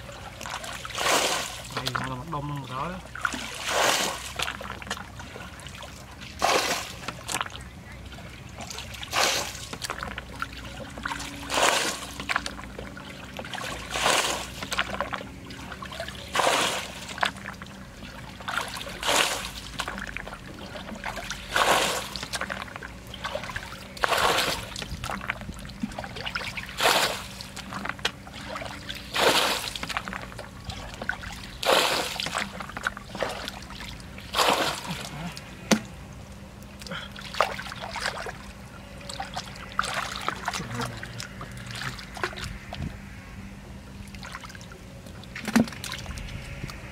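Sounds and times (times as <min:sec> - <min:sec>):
water splashing from bucket: 0:00.0 - 0:07.6, 0:08.4 - 0:36.0, 0:36.6 - 0:42.8, 0:44.1 - 0:46.8.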